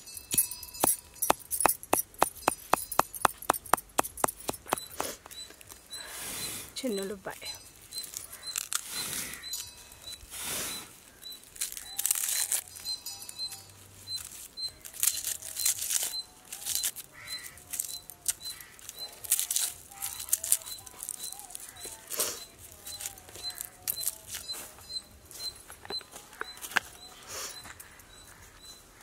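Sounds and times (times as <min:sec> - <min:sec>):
garlic skin crackling: 0:00.4 - 0:06.1, 0:06.9 - 0:27.1.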